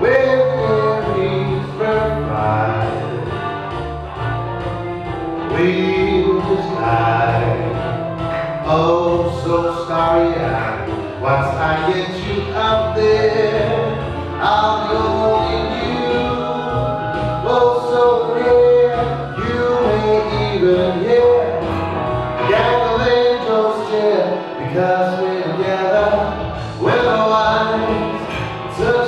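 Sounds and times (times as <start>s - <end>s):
man singing into a microphone: 0.0s - 3.4s, 5.4s - 29.0s
instrumental accompaniment: 0.0s - 29.0s.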